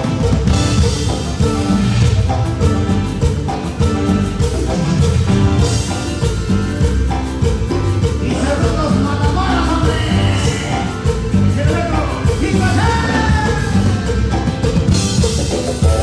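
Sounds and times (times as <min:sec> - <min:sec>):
electric bass guitar: 0:00.0 - 0:16.0
live band playing dance music: 0:00.0 - 0:16.0.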